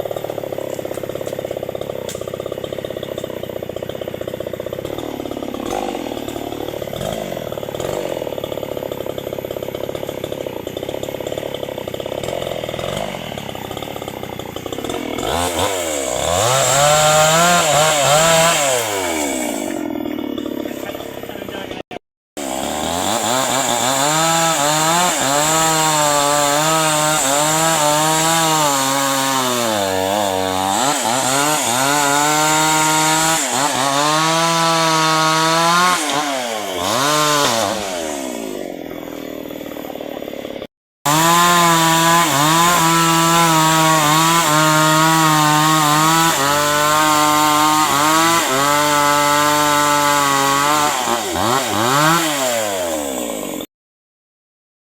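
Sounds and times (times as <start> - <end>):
chainsaw cutting wood: 0.0 - 53.7.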